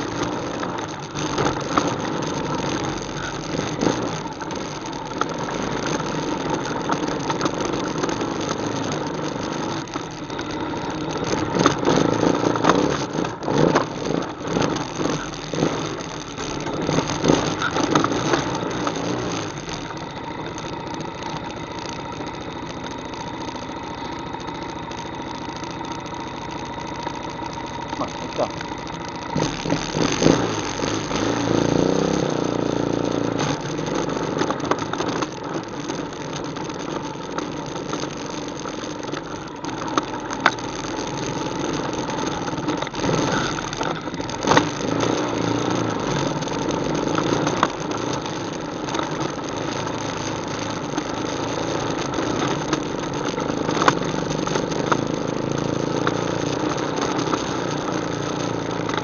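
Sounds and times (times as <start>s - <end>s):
quad engine revving: 0.0s - 24.7s, 25.3s - 59.0s.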